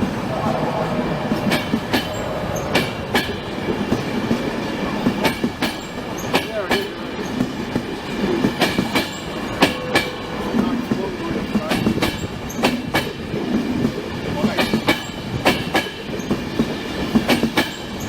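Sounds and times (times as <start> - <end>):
train wheels rumbling: 0.0 - 18.0
wheels clicking over rail joints: 1.3 - 18.0.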